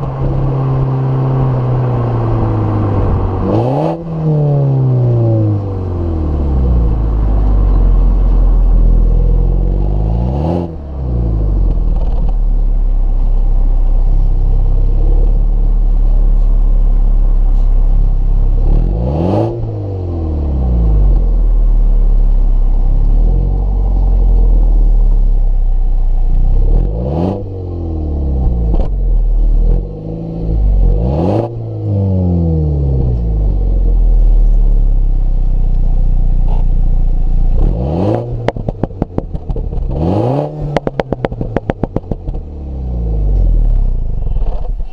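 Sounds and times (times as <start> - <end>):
car engine revving: 0.0 - 44.9
exhaust crack: 0.0 - 44.9.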